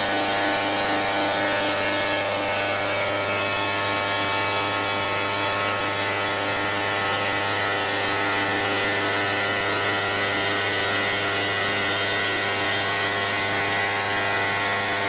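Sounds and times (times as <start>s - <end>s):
stone-cutting router running: 0.0s - 15.0s.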